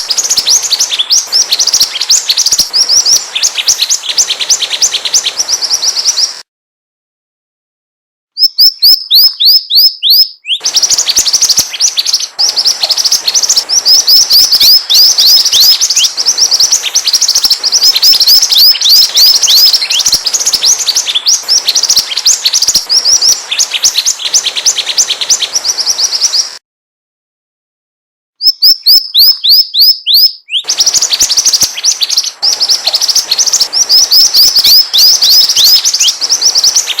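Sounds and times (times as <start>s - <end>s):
bird chirping: 0.0s - 6.4s, 8.4s - 26.6s, 28.4s - 37.0s.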